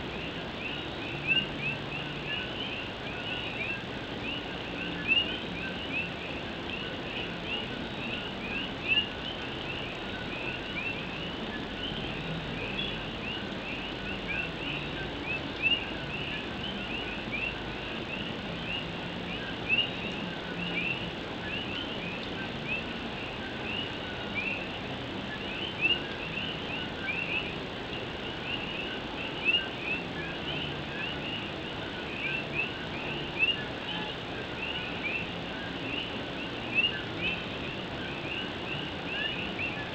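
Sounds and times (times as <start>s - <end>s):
frogs chirping chorus: 0.0s - 39.9s
rain on a tin roof: 0.0s - 39.9s.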